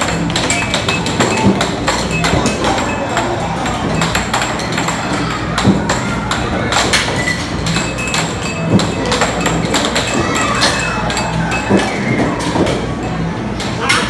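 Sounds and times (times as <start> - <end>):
air hockey puck clacking: 0.0 - 12.9
arcade background music: 0.0 - 13.8
chatter: 0.0 - 14.0.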